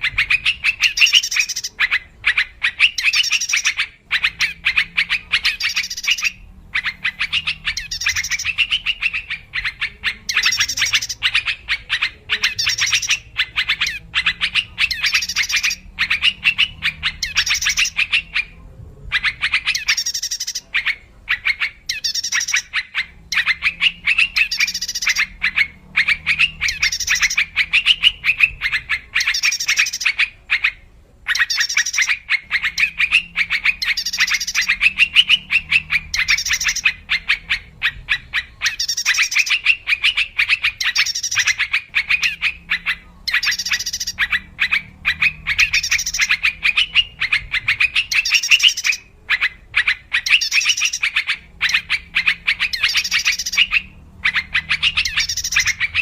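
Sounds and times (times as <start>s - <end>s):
bird chattering calls: 0.0s - 56.0s.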